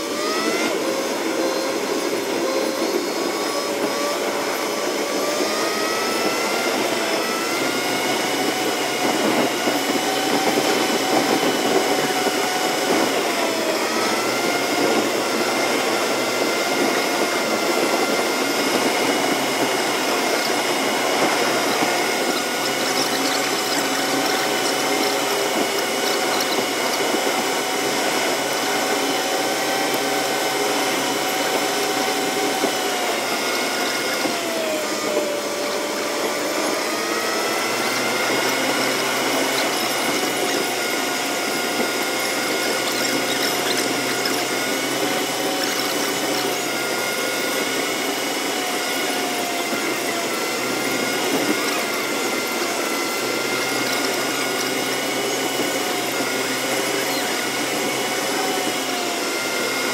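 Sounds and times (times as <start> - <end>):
whine: 0.0 - 59.3
car engine and tyre noise: 0.0 - 59.9.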